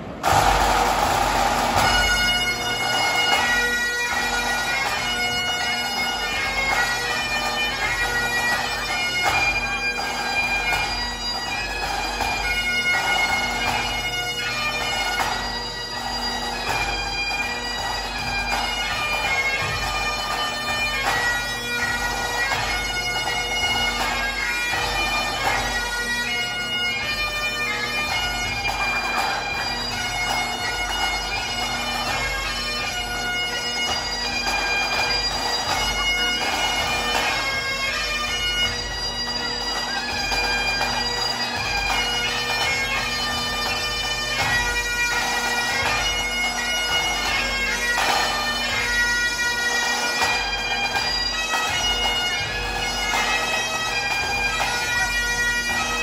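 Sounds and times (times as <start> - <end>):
bagpipes playing over drones: 0.2 - 56.0.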